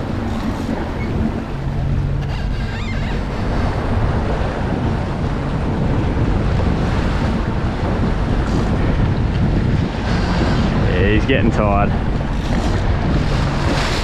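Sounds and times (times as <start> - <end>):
waves washing around boat: 0.0 - 14.0
wind buffeting microphone: 0.0 - 14.0.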